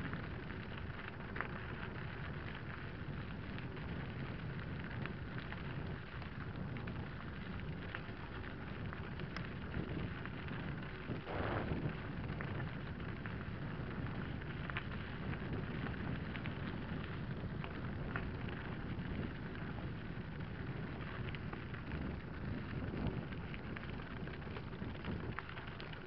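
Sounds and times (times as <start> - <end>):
stones and bike rattling: 0.0 - 26.0
wind buffeting microphone: 0.0 - 26.0.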